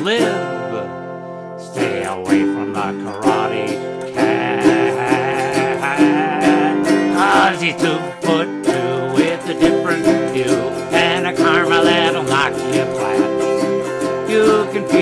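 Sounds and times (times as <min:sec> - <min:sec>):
autoharp strummed: 0:00.0 - 0:15.0
harmonica melody: 0:00.0 - 0:15.0.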